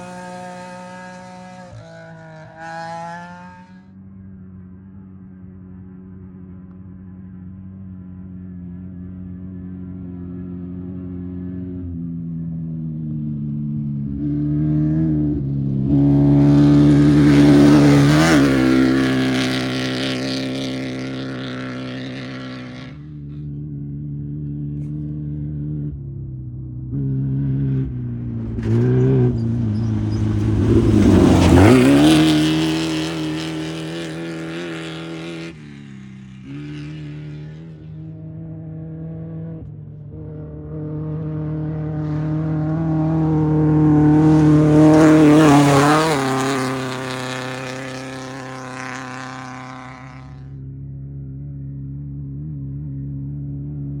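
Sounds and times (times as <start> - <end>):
race vehicle engines passing by: 0.0 - 54.0.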